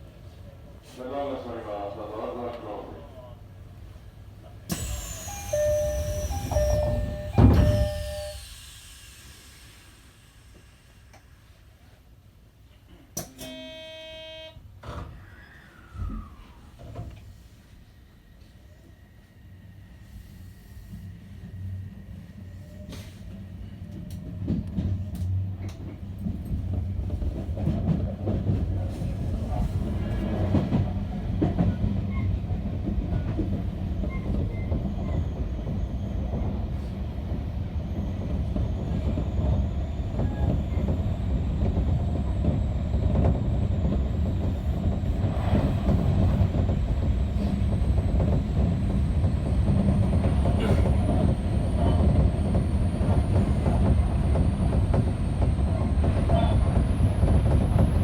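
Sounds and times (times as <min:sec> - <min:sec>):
electric train rumble: 0:01.4 - 0:12.8, 0:15.7 - 0:58.0.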